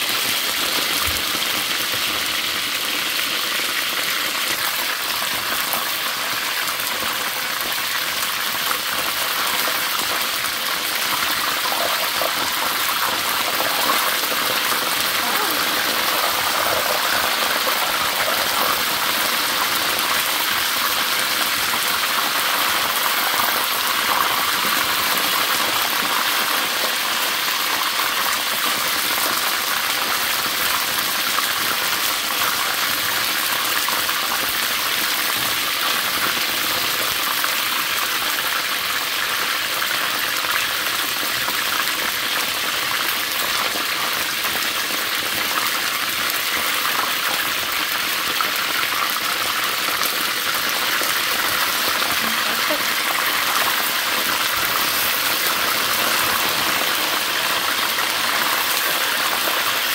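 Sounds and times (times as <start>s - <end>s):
chicken frying in hot oil: 0.0s - 59.9s.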